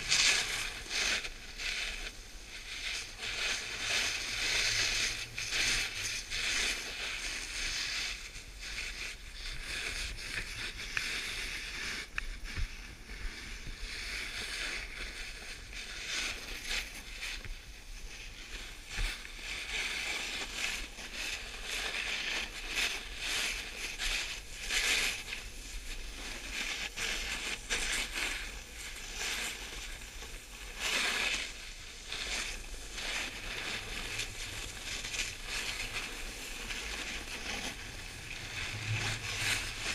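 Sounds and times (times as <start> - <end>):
snowboard carving over snow: 0.0 - 39.9.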